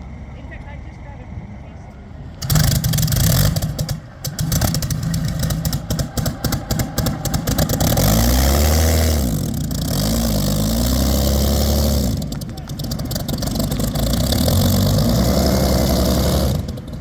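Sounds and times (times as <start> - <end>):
aircraft engine running rough: 1.9 - 17.0.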